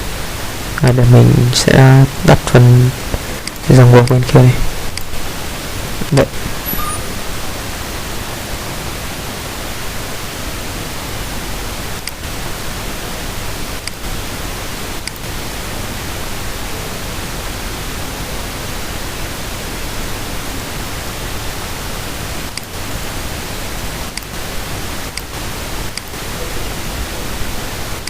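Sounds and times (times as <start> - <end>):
background recording hiss: 0.0 - 28.0.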